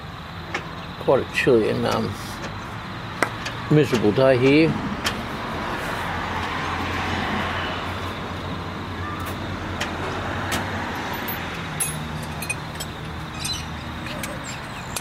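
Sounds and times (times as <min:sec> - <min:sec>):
road traffic hum and hiss: 0:00.0 - 0:15.0.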